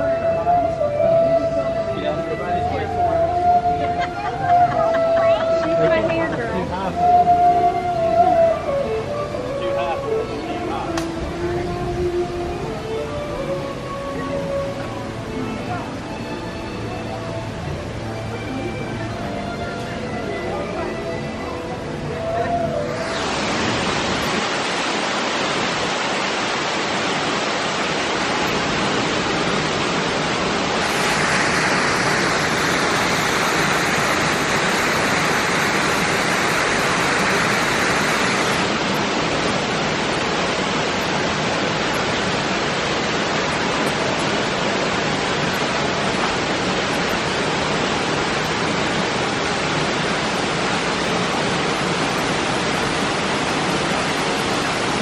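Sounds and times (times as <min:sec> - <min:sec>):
rushing falling water: 0:00.0 - 0:55.0.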